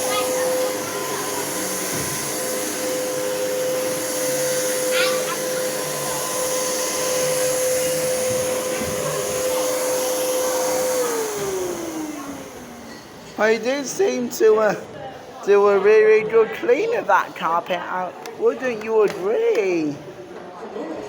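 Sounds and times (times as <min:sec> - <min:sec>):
vacuum cleaner running: 0:00.0 - 0:20.2.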